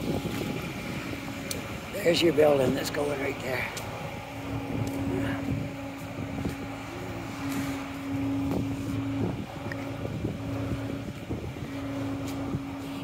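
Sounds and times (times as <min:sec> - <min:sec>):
low mechanical hum: 0:00.0 - 0:13.0
street noise: 0:00.0 - 0:13.0.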